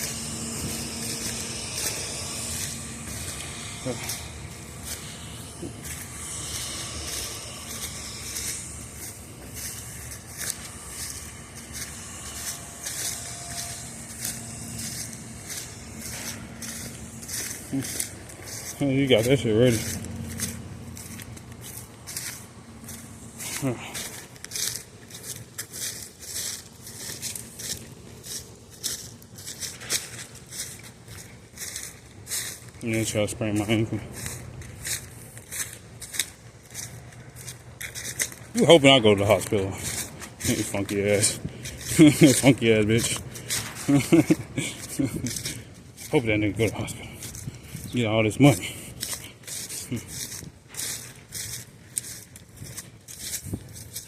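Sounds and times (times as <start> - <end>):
footsteps crunching on twigs: 0.0 - 54.0.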